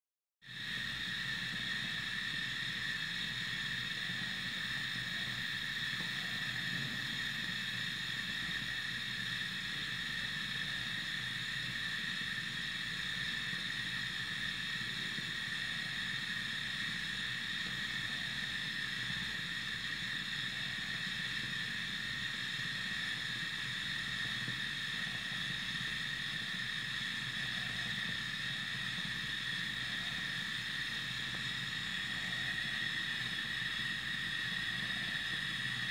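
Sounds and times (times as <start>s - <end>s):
steady background hiss: 0.5s - 35.9s.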